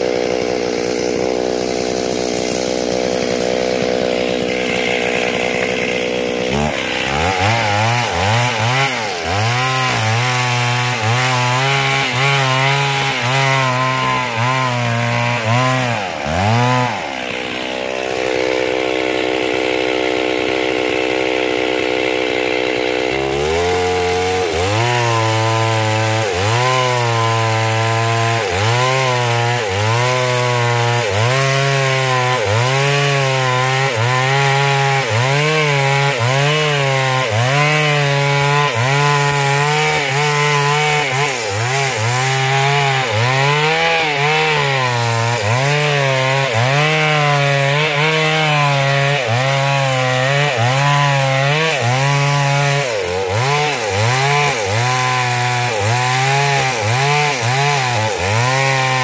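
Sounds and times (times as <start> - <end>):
chainsaw cutting through tree: 0.0 - 59.0.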